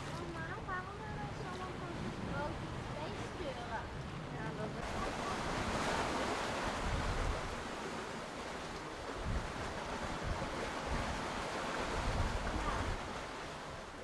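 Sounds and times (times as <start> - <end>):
wind buffeting microphone: 0.0 - 7.9, 8.8 - 13.9
sea water rushing along hull: 0.0 - 14.0.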